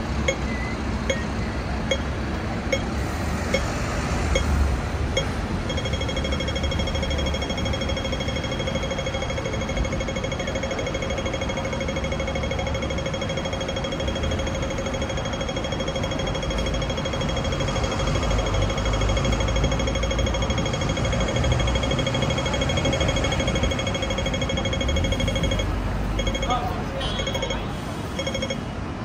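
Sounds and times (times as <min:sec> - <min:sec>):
busy street noise: 0:00.0 - 0:29.0
pulsing electronic alarm tone: 0:05.2 - 0:28.6.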